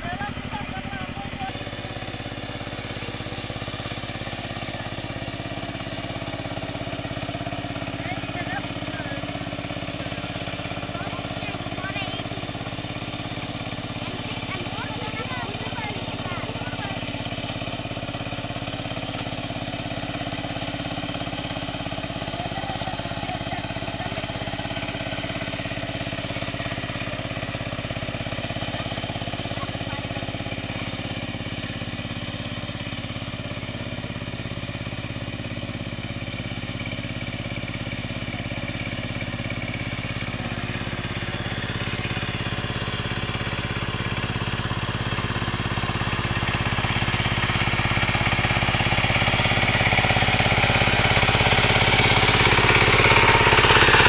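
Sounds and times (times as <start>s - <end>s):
power tiller diesel engine running: 0.0s - 54.0s.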